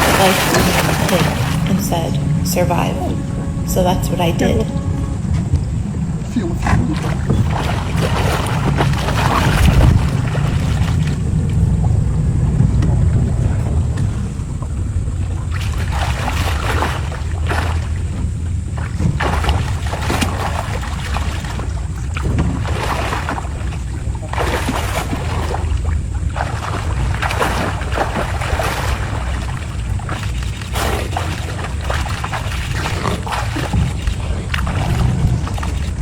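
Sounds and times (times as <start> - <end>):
low rumble: 0.0 - 36.0
rushing water: 0.0 - 36.0
wind noise: 0.0 - 36.0.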